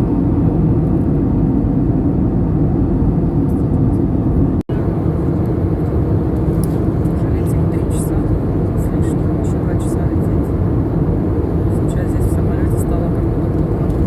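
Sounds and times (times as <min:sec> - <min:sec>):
vehicle travelling low rumble: 0:00.0 - 0:14.0.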